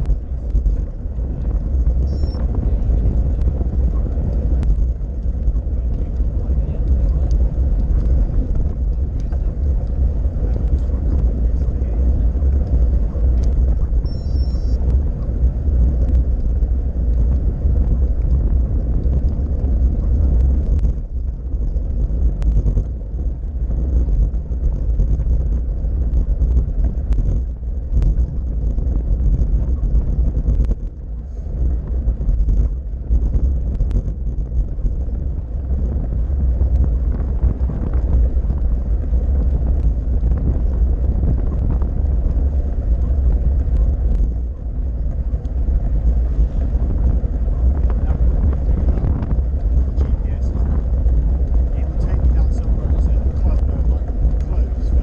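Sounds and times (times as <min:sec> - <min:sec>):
tyre and road rumble: 0:00.0 - 0:55.0
wind buffeting microphone: 0:00.0 - 0:55.0.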